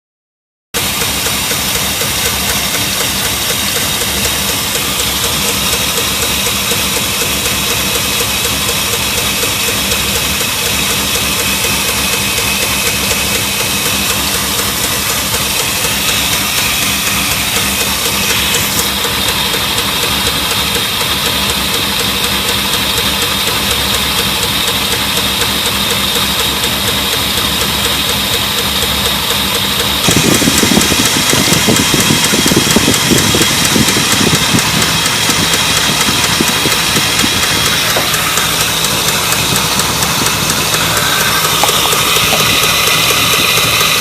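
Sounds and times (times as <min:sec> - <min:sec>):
engine idling with lifter tick: 0:00.7 - 0:44.0.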